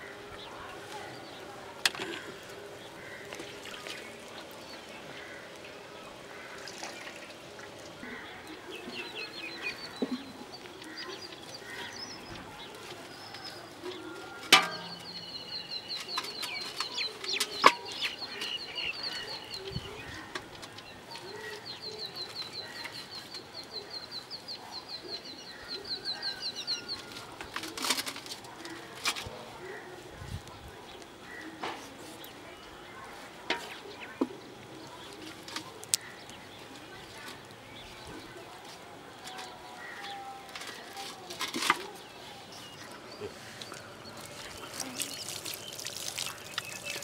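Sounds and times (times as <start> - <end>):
birds chirping: 0.0 - 28.0, 29.6 - 47.0.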